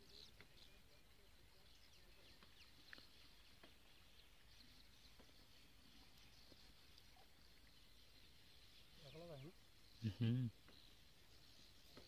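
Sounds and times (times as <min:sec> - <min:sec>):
faint insect hum: 0:00.0 - 0:12.0.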